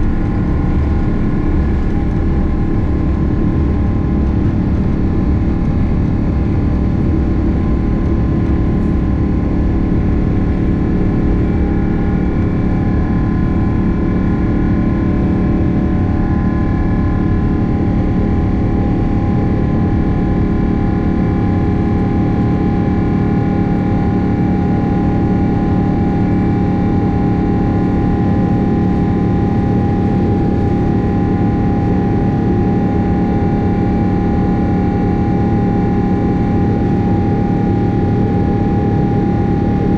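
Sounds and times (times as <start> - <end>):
jet engines in passenger cabin: 0.0 - 39.9.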